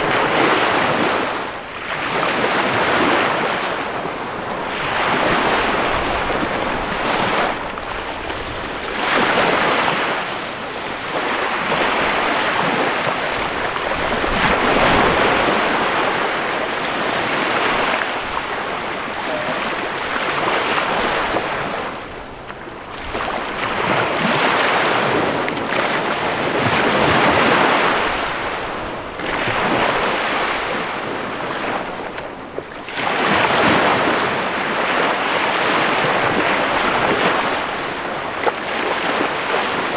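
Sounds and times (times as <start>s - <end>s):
waves washing on sandy shore: 0.0s - 39.9s.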